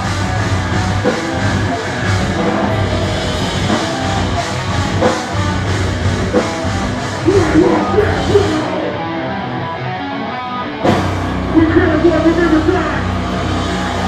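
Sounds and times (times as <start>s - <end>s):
punk band playing live: 0.0s - 14.0s.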